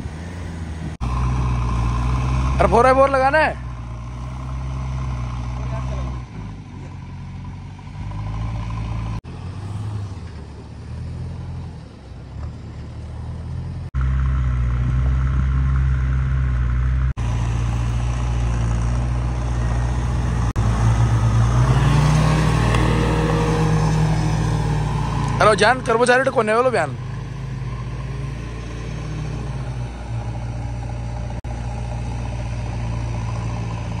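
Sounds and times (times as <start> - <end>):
car engine revving in sand: 0.0 - 34.0.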